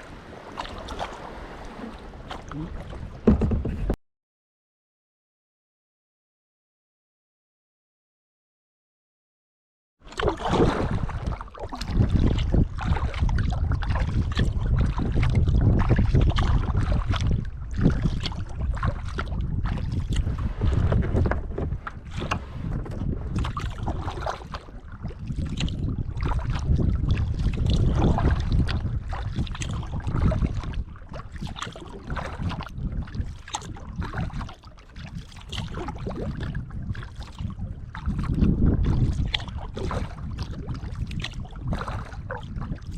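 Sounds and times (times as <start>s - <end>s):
water splashing from paddling: 0.0s - 4.0s, 10.1s - 42.9s
wind buffeting microphone: 0.0s - 4.0s, 10.2s - 42.9s.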